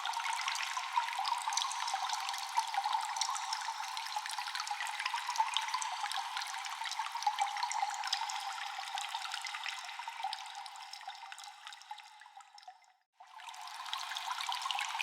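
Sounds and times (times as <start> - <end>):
water dripping in a cave: 0.0 - 15.0.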